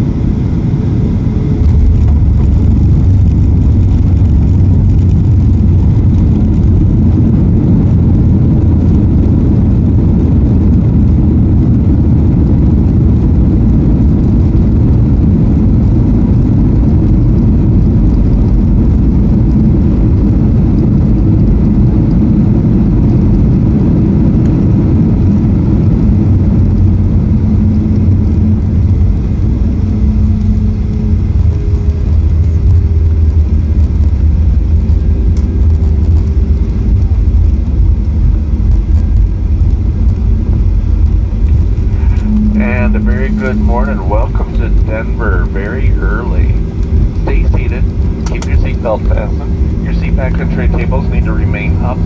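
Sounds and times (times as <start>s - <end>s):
jet engines and wheels rumbling: 0.0s - 52.0s
steady hum: 0.0s - 52.0s.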